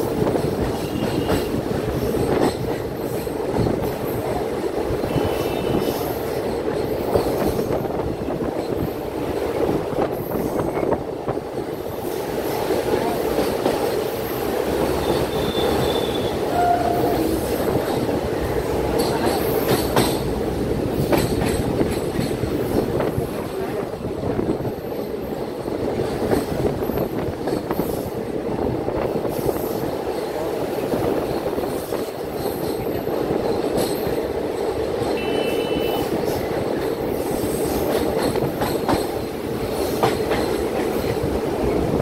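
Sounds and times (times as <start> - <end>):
rail joint clicks: 0.0 - 42.0
train wheels rumbling on track: 0.0 - 42.0.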